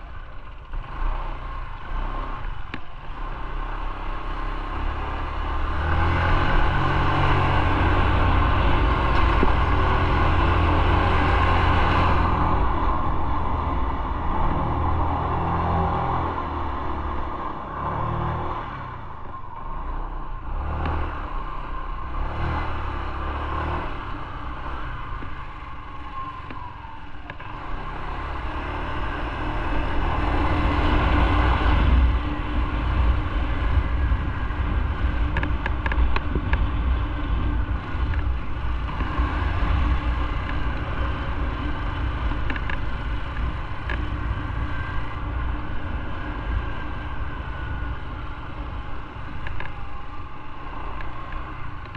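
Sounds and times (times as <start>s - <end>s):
motorcycle engine running: 0.0s - 17.8s, 18.8s - 51.9s
road and wind noise: 0.0s - 51.9s.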